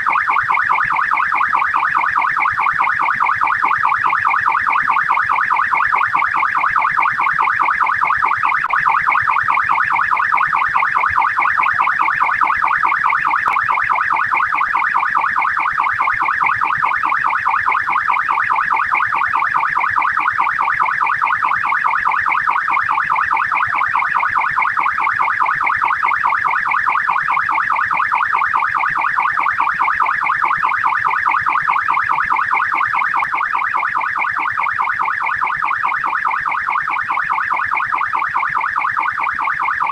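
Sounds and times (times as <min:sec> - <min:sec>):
police siren yelp: 0:00.0 - 0:39.9.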